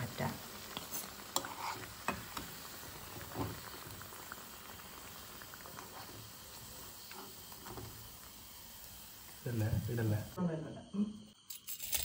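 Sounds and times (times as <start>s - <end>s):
oil bubbling and crackling: 0.0s - 10.4s.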